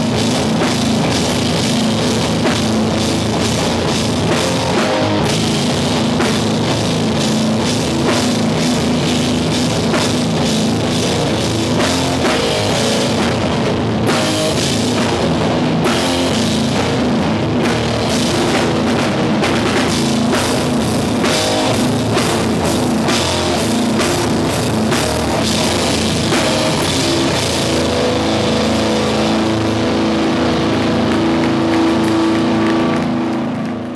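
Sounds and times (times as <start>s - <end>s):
bass guitar: 0.0s - 33.9s
distorted electric guitars: 0.0s - 33.9s
drum kit: 0.0s - 33.9s.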